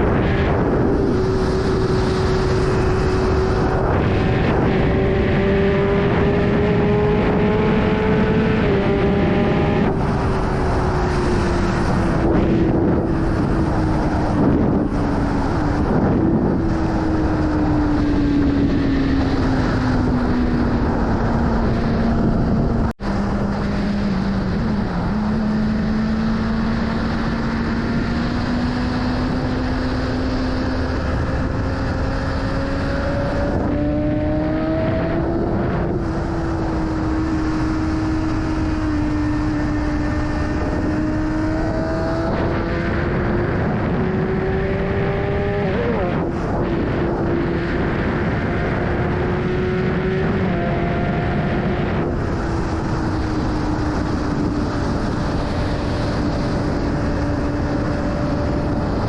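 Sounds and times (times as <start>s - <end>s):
motorcycle engine: 0.0s - 59.0s
wind rush: 0.0s - 59.0s.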